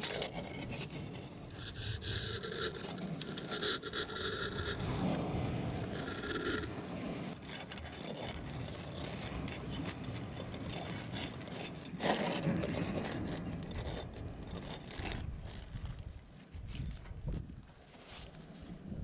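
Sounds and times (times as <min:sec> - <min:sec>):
scraping and rubbing: 0:00.0 - 0:05.2, 0:05.8 - 0:17.5.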